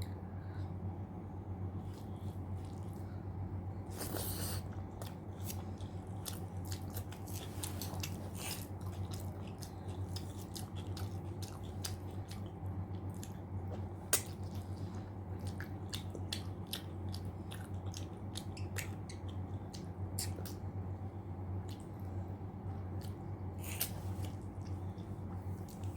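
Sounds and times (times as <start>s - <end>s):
steady low hum: 0.0s - 25.9s
chewing and wet mouth sounds: 1.8s - 3.2s, 3.8s - 25.9s.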